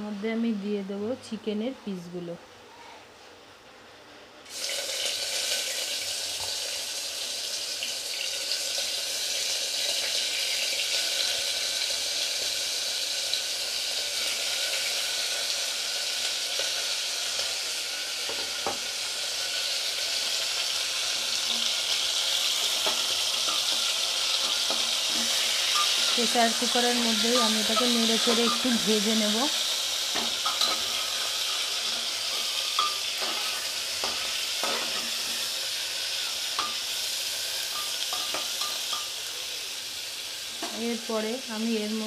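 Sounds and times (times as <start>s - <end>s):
chicken sizzling in hot oil: 4.5s - 42.0s.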